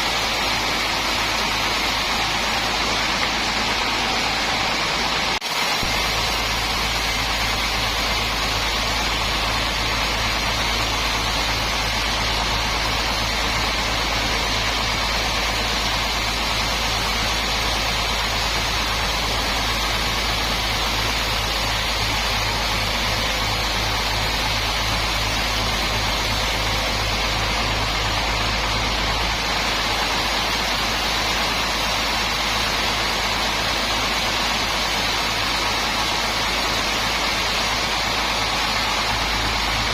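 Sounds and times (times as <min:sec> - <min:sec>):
sawmill machinery hissing and humming: 0:00.0 - 0:39.9.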